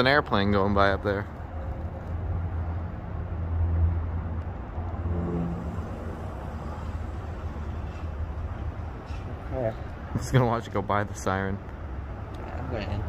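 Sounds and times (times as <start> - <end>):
airplane passing overhead: 0.9 - 13.0.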